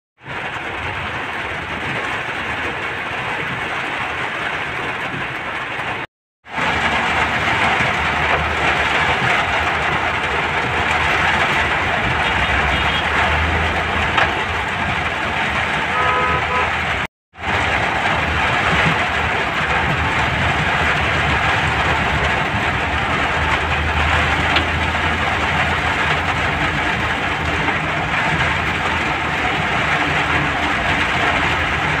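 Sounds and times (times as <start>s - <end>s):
rain hissing on wet road: 0.2s - 32.0s.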